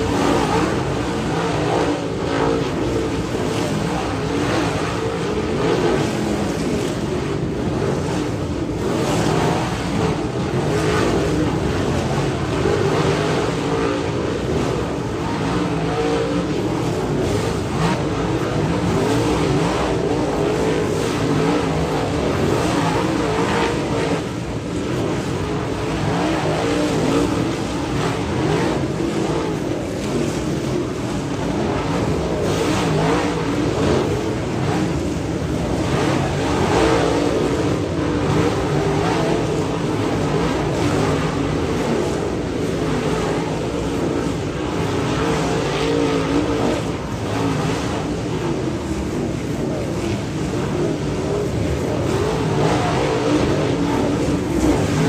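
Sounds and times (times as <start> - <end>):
race car engines passing: 0.0 - 55.0.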